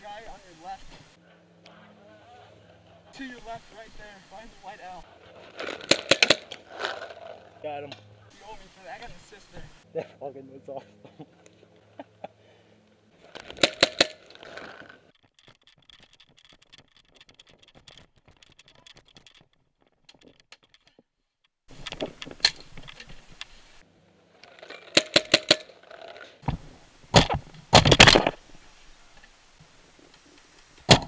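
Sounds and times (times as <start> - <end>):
faint rustling of gear: 0.2 - 9.8, 11.4 - 27.7.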